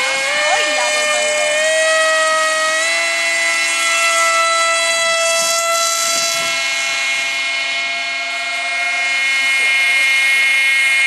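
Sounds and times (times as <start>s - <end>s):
model aircraft engine whining: 0.0s - 11.0s.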